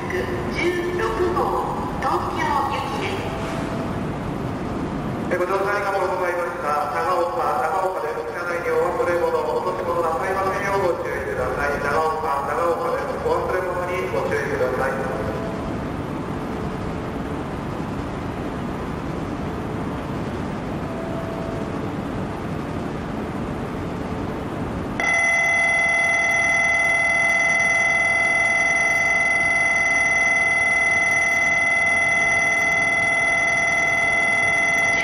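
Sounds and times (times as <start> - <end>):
platform departure bell ringing: 0.0 - 18.4, 20.7 - 22.8, 25.0 - 35.0
platform background noise: 0.0 - 35.0.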